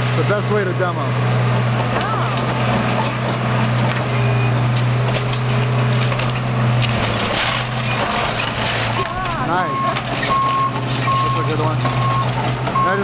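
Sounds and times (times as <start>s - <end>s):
diesel engine under load: 0.0s - 13.0s
wood cracking and splintering: 1.4s - 13.0s.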